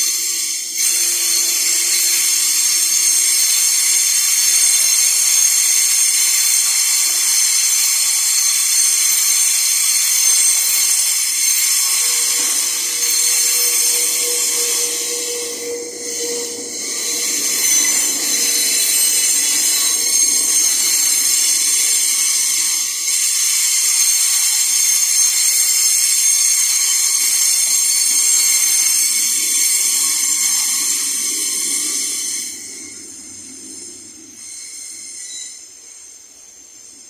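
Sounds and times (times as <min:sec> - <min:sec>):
train wheels squealing on rails: 0:00.0 - 0:37.0.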